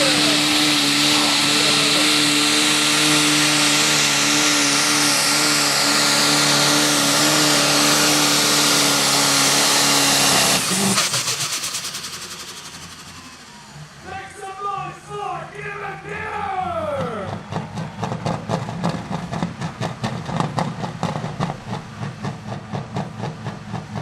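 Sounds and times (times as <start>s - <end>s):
engine spinning down rattle: 0.0s - 14.5s, 16.8s - 24.0s
tractor engine at high revs: 0.0s - 24.0s.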